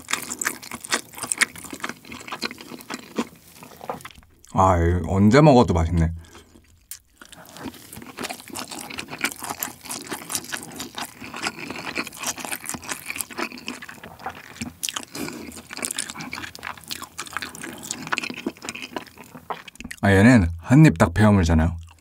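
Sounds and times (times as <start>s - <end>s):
close chewing with moist clicks: 0.0s - 4.6s, 6.2s - 20.0s, 21.8s - 22.0s.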